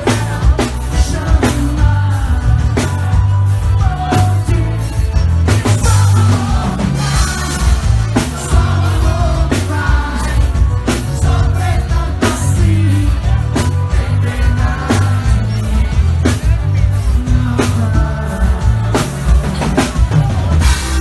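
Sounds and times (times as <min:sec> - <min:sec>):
heavy bass line: 0:00.0 - 0:21.0
live band playing loudly: 0:00.0 - 0:21.0
person singing: 0:00.0 - 0:21.0.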